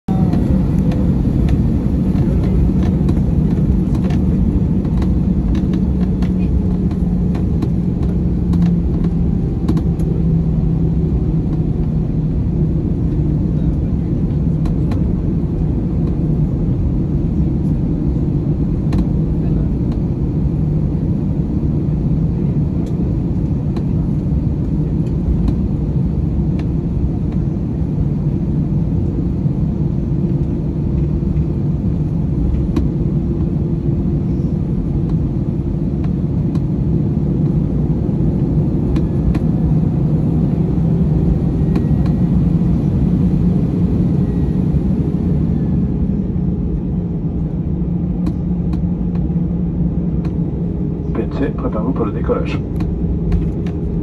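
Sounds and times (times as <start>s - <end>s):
low rumble of jet engines: 0.0s - 54.0s.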